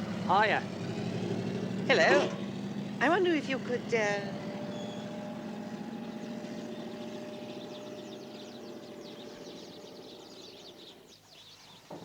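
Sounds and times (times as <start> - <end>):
low engine rumble: 0.0 - 11.2
small birds chirping: 0.0 - 12.0.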